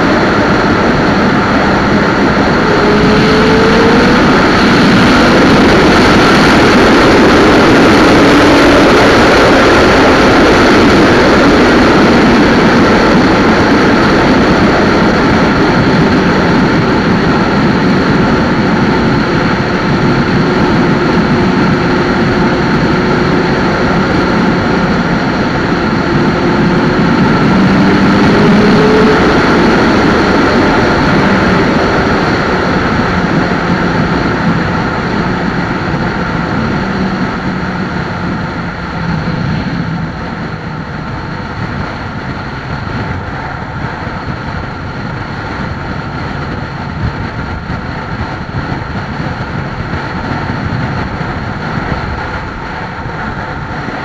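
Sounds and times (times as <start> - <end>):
motorcycle engine at high speed: 0.0 - 54.0
wind rush: 0.0 - 54.0.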